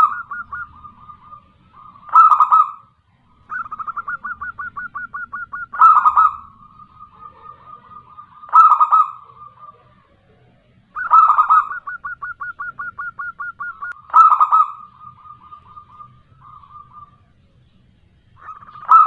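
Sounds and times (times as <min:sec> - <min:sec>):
dove cooing: 0:00.0 - 0:17.7, 0:18.3 - 0:19.0.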